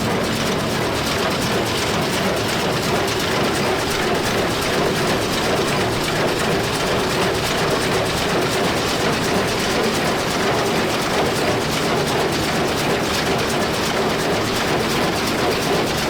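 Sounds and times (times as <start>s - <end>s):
hay baler clattering: 0.0s - 16.0s
tractor engine drone: 0.0s - 16.0s.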